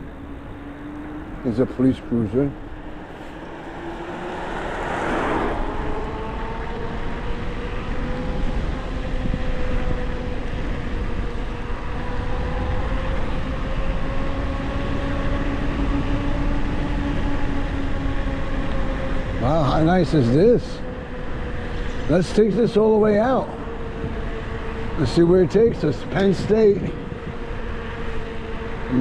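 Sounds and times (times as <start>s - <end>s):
electric bike motor whining: 0.0s - 22.1s, 22.7s - 29.0s
wind and tyres rumbling: 0.0s - 29.0s.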